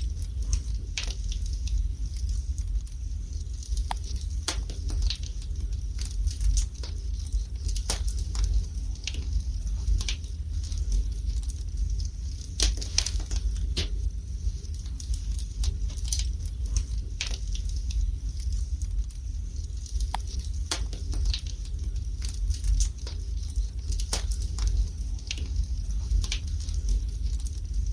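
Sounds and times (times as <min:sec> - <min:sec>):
fire crackling and popping: 0:00.0 - 0:27.9
low fire rumble: 0:00.0 - 0:27.9.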